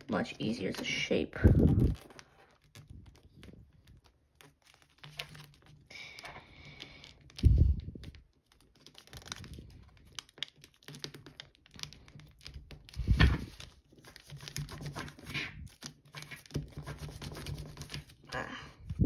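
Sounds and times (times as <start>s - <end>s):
foil paper crinkling: 0.2s - 18.3s.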